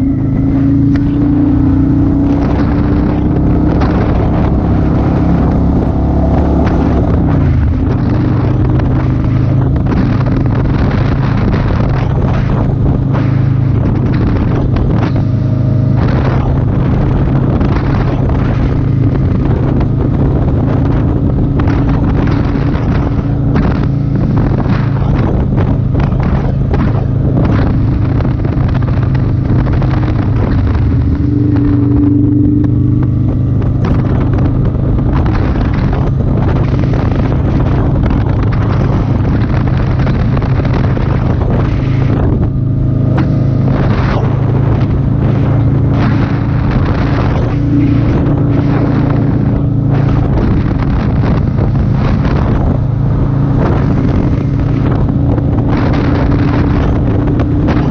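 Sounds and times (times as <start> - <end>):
motorcycle engine running: 0.0 - 57.9
wind buffeting microphone: 0.0 - 57.9.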